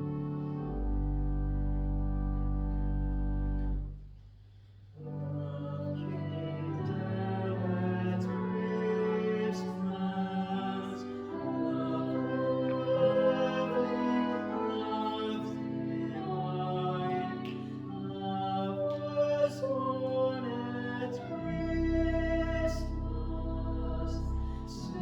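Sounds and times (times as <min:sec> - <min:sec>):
slow music with held notes: 0:00.0 - 0:04.2, 0:05.0 - 0:25.0.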